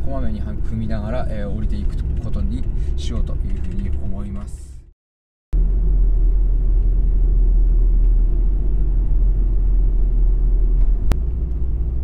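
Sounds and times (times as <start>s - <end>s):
road and tyre rumble: 0.0s - 4.9s, 5.6s - 12.0s.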